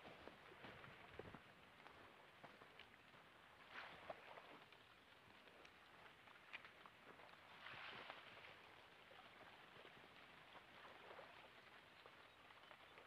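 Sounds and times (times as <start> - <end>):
ripples lapping on gravel shore: 1.9 - 13.0.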